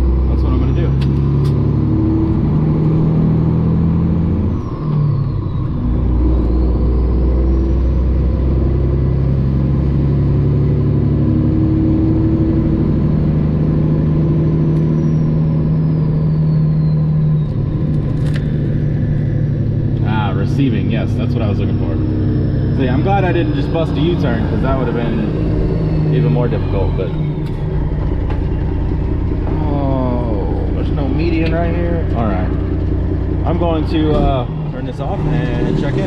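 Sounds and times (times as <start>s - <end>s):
truck diesel engine: 0.0s - 36.0s.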